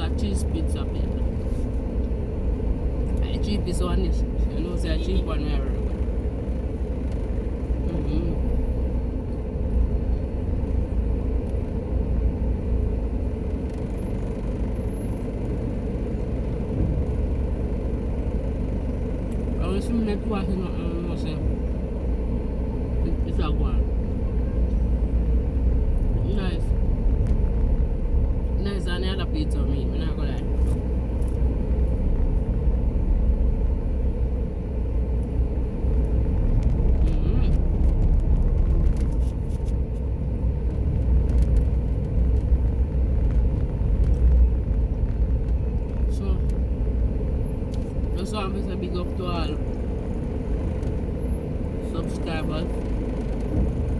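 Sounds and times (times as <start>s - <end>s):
low vehicle rumble: 0.0s - 53.9s
road noise: 0.0s - 53.9s.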